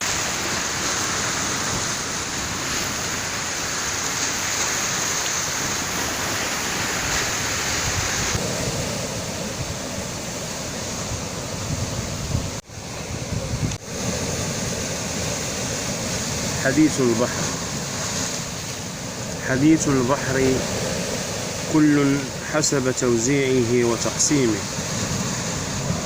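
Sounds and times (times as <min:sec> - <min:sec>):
sea waves washing on shore: 0:00.0 - 0:26.0.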